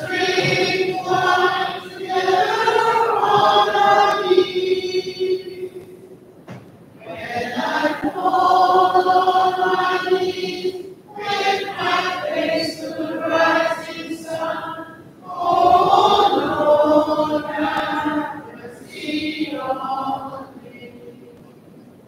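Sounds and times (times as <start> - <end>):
voices singing slow melody: 0.0 - 22.0.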